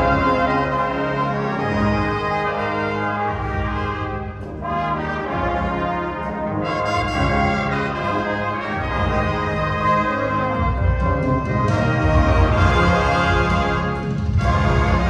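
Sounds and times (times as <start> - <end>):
wind ensemble brass chords: 0.0 - 15.0.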